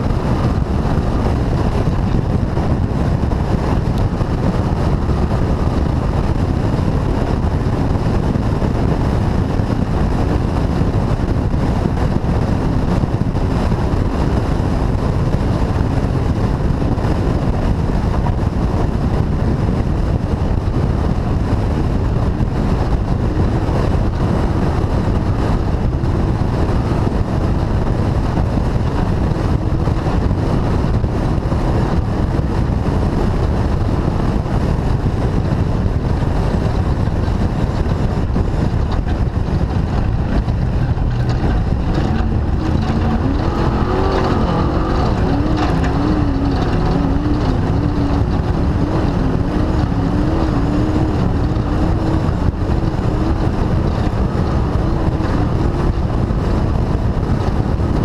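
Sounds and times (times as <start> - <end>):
vehicle engine rumble: 0.0 - 58.0
wind noise on microphone: 0.0 - 58.0.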